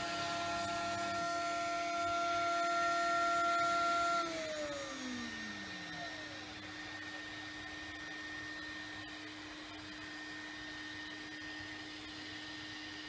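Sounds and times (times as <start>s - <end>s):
milling spindle whine: 0.0s - 13.0s.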